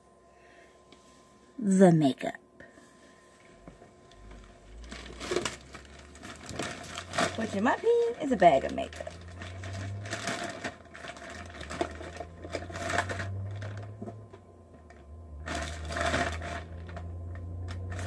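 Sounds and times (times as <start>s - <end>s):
low steady hum: 0.0s - 18.0s
makeup items rustling and clattering: 3.4s - 18.0s.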